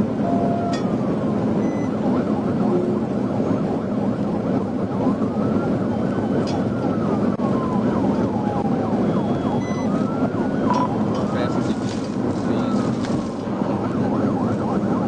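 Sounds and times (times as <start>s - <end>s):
car driving at speed: 0.0s - 15.0s
police siren wailing and yelping: 0.2s - 15.0s.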